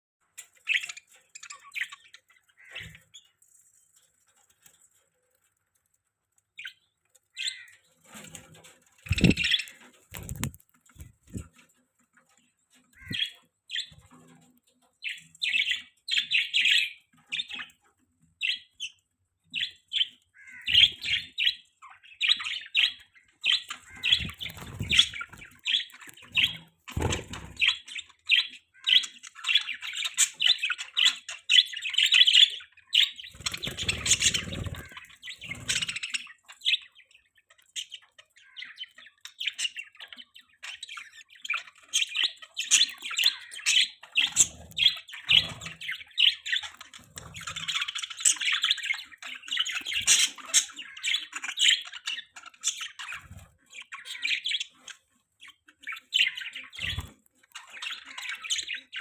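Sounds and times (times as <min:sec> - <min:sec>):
budgerigars chirping: 0:00.6 - 0:03.3, 0:06.6 - 0:08.3, 0:09.1 - 0:11.6, 0:13.0 - 0:14.4, 0:15.0 - 0:17.8, 0:18.4 - 0:59.0.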